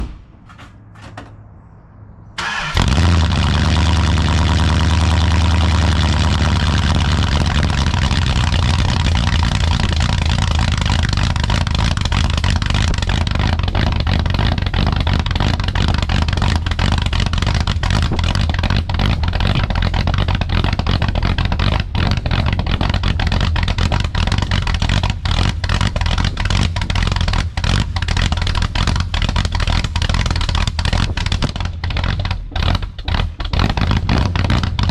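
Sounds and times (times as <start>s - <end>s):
car engine cranking: 2.4s - 34.9s
car engine idling: 2.4s - 34.9s.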